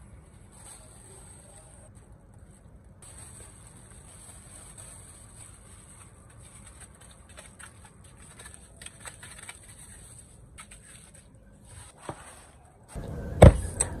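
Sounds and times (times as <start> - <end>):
plastic bags crinkling: 0.0 - 12.6
low steady hum: 0.0 - 14.0.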